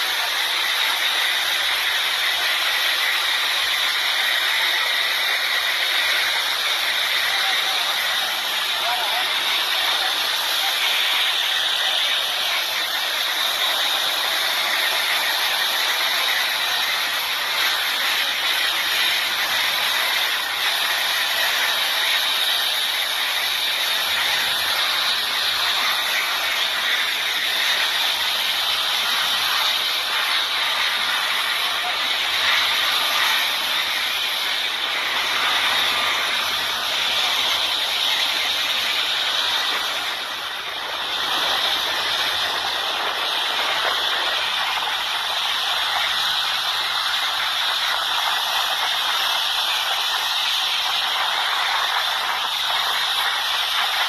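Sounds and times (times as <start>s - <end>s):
helicopter turbine and rotor hiss: 0.0s - 54.0s.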